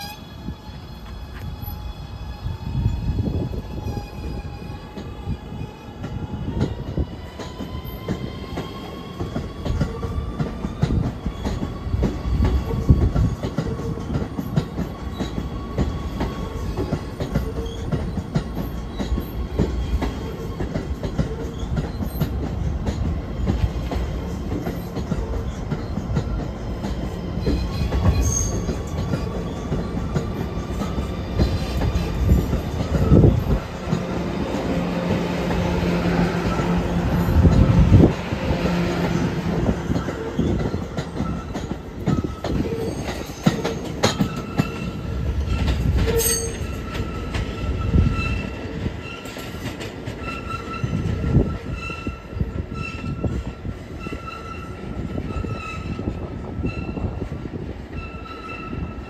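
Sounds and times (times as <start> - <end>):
subway train rolling: 0.0 - 59.0.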